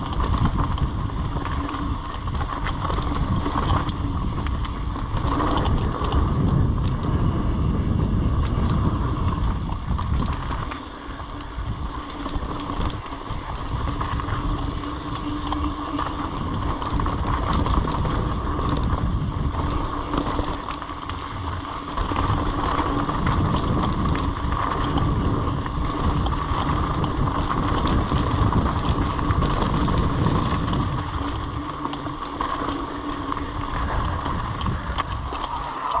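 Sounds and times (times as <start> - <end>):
bike rattling over ground: 0.0 - 36.0
steady high hum: 0.0 - 36.0
wind buffeting microphone: 0.0 - 36.0.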